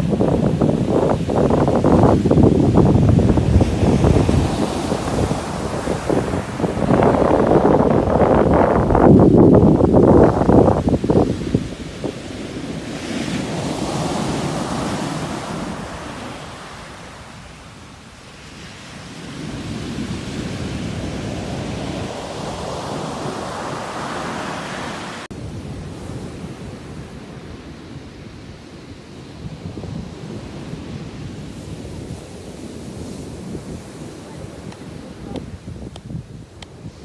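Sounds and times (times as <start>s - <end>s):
sea waves surging: 0.0s - 37.0s.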